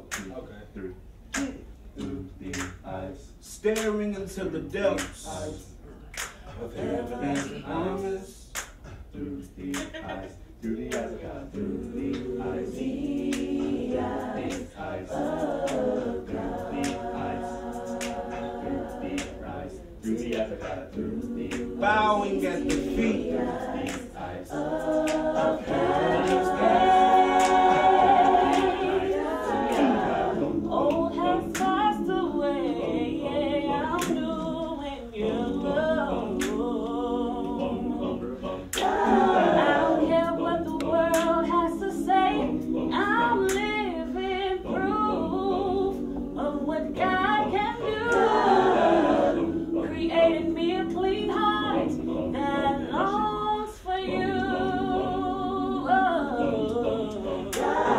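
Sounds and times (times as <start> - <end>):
vocal group singing a cappella: 0.0 - 57.9.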